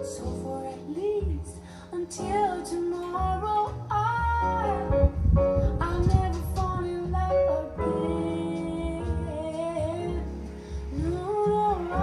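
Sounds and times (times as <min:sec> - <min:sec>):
person singing: 0:00.0 - 0:05.1, 0:05.7 - 0:12.0
guitar and bass: 0:00.0 - 0:12.0.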